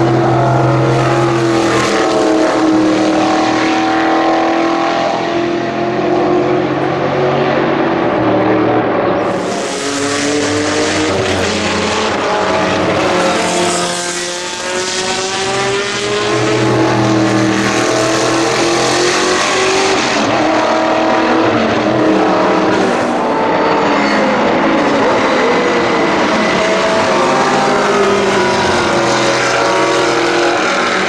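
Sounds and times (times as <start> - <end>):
racing engine running hard: 0.0 - 31.0.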